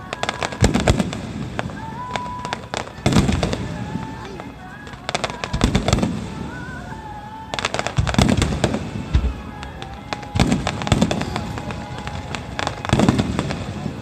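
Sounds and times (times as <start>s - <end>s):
fireworks booms: 0.0s - 14.0s
fireworks crackling: 0.0s - 14.0s.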